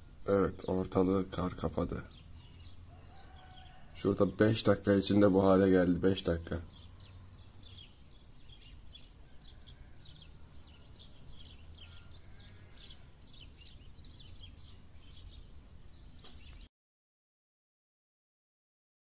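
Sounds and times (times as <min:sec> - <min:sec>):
small birds chirping: 0:00.0 - 0:16.7.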